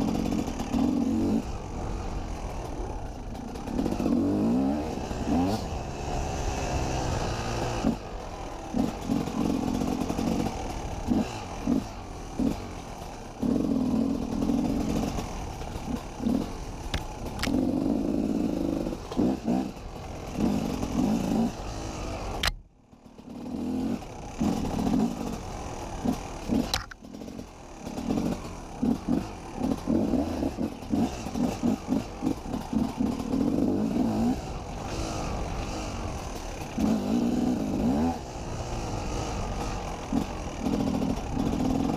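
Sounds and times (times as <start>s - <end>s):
bike rattling on rough trail: 0.0s - 41.9s
motorcycle engine revving: 0.0s - 41.9s.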